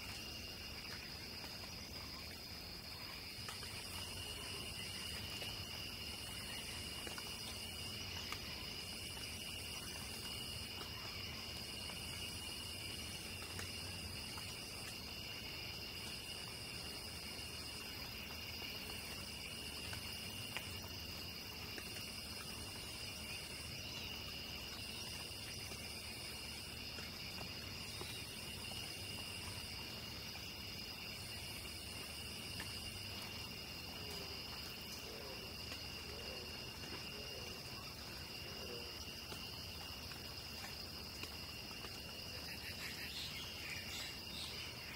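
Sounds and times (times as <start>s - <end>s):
crickets trilling: 0.0s - 44.9s
shrill insect call: 0.0s - 44.9s.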